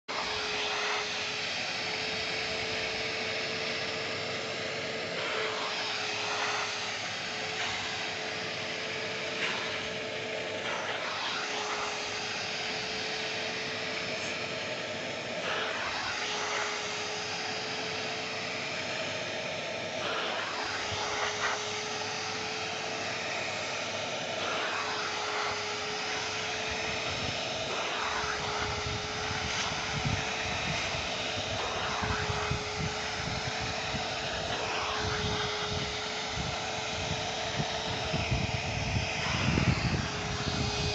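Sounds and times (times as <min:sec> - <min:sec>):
vacuum cleaner motor whining: 0:00.0 - 0:40.9.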